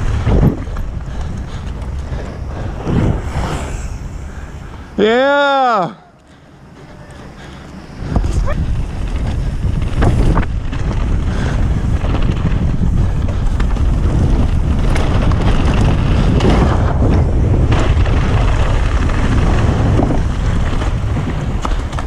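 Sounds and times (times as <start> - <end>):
tyre noise on dirt: 0.0 - 5.9, 6.7 - 22.0
bike rattling over bumps: 0.0 - 22.0
wind buffeting microphone: 0.0 - 22.0.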